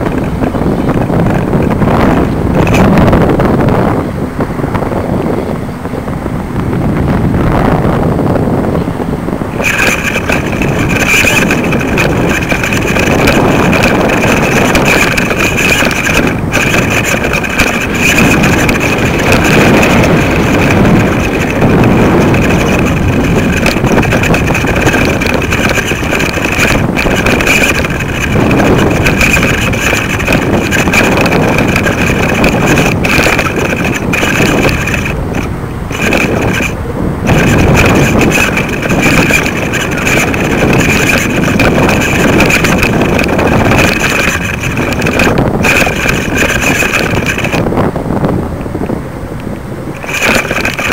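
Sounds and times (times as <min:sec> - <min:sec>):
high-pitched whine: 0:00.0 - 0:50.9
wind buffeting microphone: 0:00.0 - 0:50.9.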